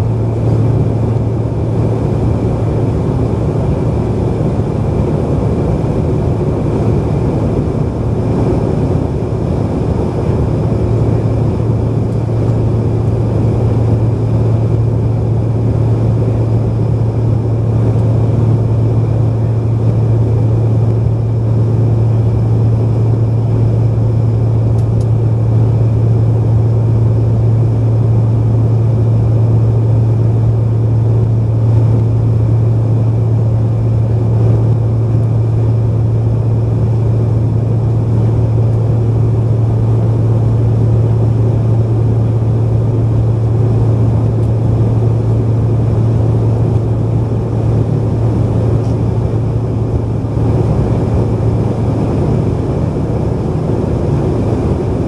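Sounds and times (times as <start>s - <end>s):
airflow over fuselage: 0.0s - 55.0s
jet engines droning in cabin: 0.0s - 55.0s.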